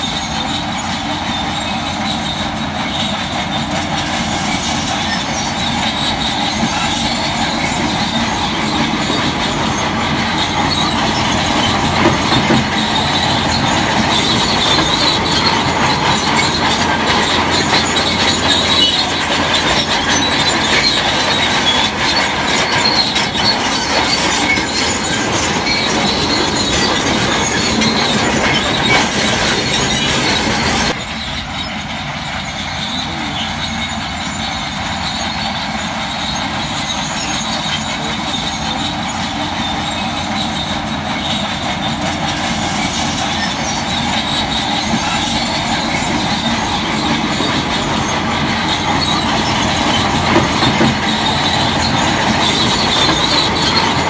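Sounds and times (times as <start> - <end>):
heavy machine mechanical din: 0.0 - 54.0
steel tracks squealing and clattering: 0.0 - 54.0.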